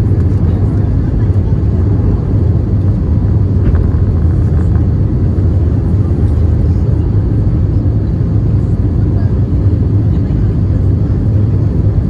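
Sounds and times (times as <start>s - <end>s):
airplane engine rumble: 0.0s - 12.0s.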